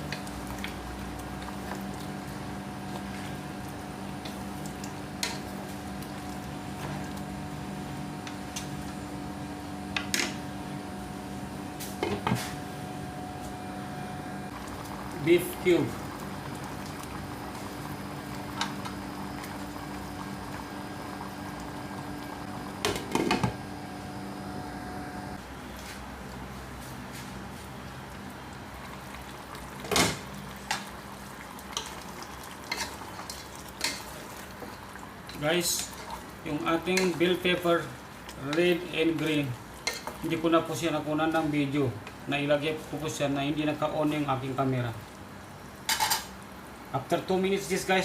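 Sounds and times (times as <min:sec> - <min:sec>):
steady mechanical hum: 0:00.0 - 0:48.0.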